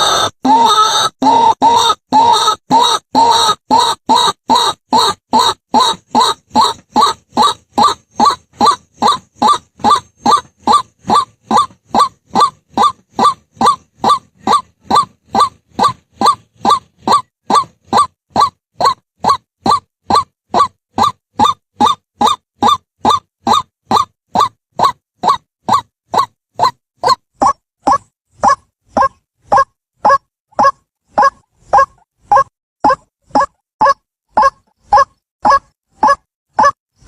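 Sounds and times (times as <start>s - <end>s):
waterhen calling: 0.0s - 36.8s.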